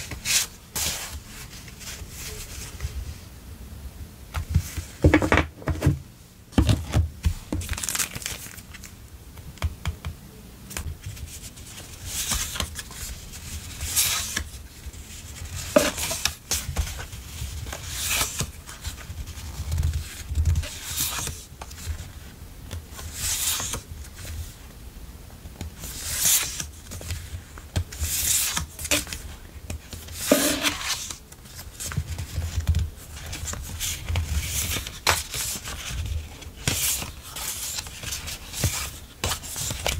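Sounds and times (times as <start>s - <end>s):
paper sheets rustling: 0.0s - 3.0s, 6.8s - 8.9s, 10.8s - 22.1s, 22.9s - 24.6s, 25.8s - 39.9s.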